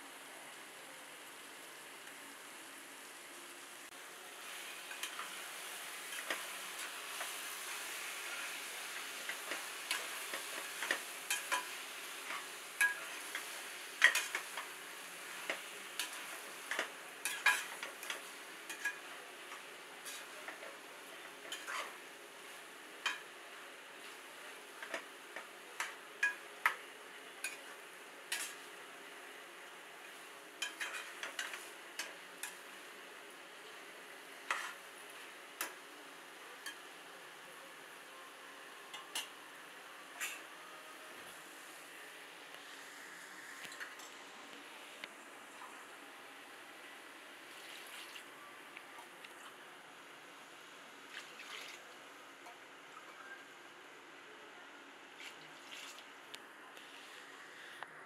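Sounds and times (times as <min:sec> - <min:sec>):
onion masala sizzling in a pot: 0:00.0 - 0:44.1, 0:44.8 - 0:48.8.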